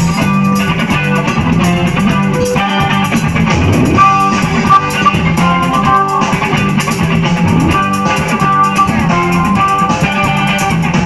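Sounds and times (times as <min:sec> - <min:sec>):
drum kit: 0:00.0 - 0:11.0
electric guitar lead: 0:00.0 - 0:11.0
keyboard: 0:00.0 - 0:11.0
rhythm guitar: 0:00.0 - 0:11.0.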